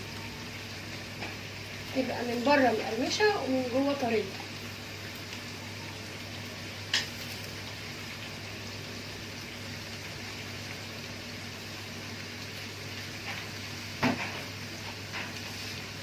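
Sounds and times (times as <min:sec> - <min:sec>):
pot of water boiling: 0:00.0 - 0:16.0.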